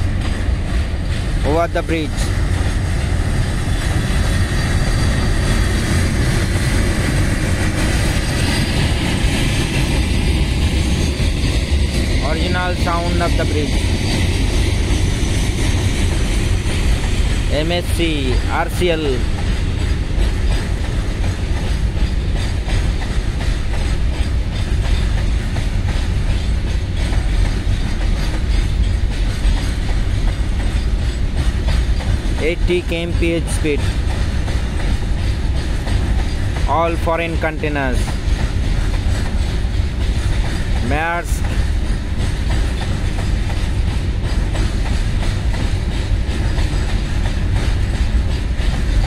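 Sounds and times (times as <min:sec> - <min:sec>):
freight train rumbling over bridge: 0:00.0 - 0:49.0
wheels clacking over rail joints: 0:00.0 - 0:49.0.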